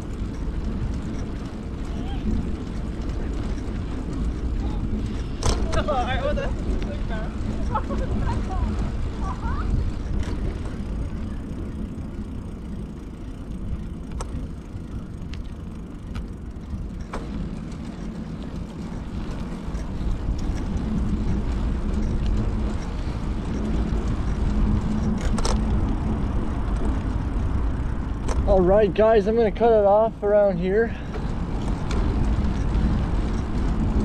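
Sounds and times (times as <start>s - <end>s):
low hum: 0.0s - 30.3s, 30.9s - 34.0s
wind and tyre rumble on bicycle: 0.0s - 34.0s.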